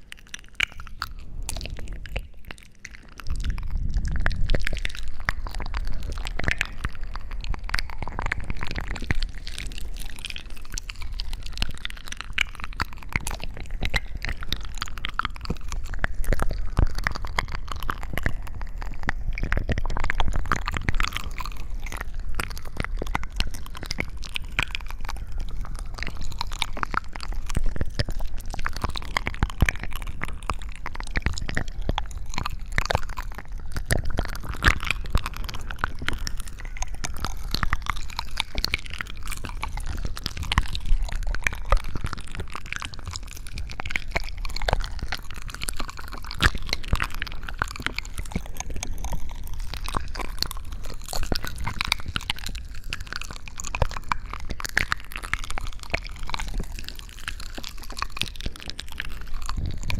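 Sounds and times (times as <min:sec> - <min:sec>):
close crunching and crackling: 0:00.0 - 0:59.9
wet squishing: 0:00.0 - 0:59.9.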